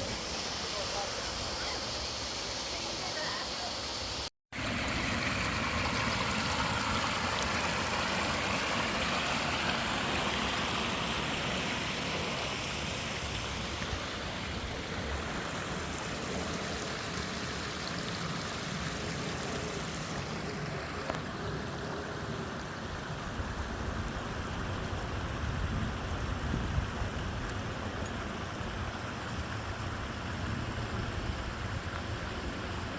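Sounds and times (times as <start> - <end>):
rush of running water: 0.0 - 32.9.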